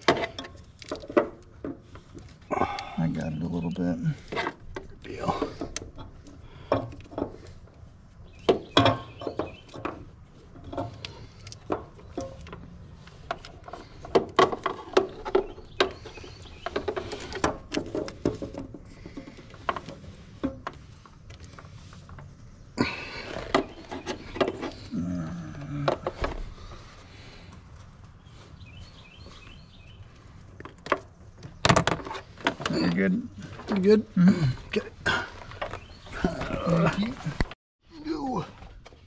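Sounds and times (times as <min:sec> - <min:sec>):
clicks and rustles of wiring: 0:00.0 - 0:34.0.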